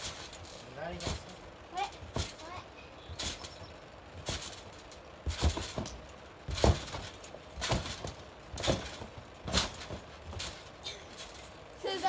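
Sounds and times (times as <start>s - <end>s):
thumps on trampoline: 0.0s - 11.6s.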